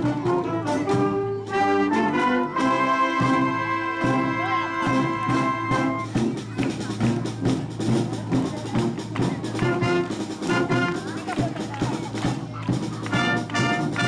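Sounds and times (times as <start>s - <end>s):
brass band playing: 0.0s - 14.0s
drums: 0.0s - 14.0s.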